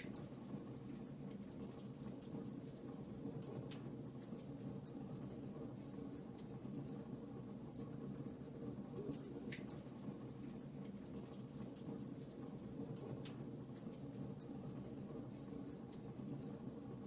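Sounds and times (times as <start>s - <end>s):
wood fire crackling: 0.0s - 16.8s.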